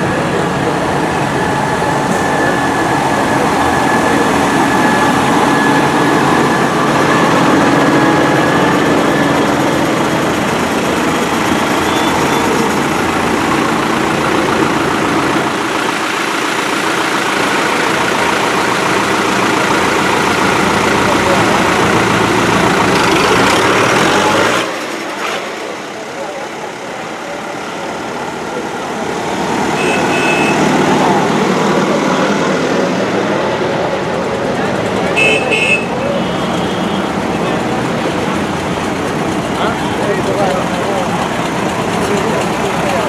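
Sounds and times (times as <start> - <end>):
tractor diesel engines running: 0.0 - 43.0.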